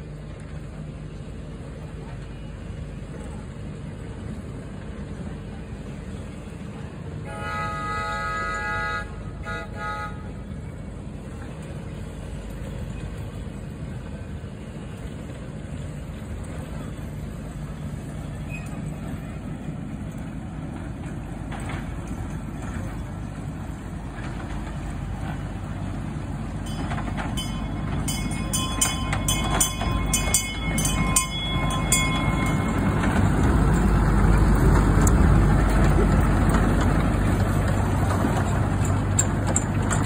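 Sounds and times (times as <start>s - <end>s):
miniature diesel train rumbling: 0.0s - 40.0s.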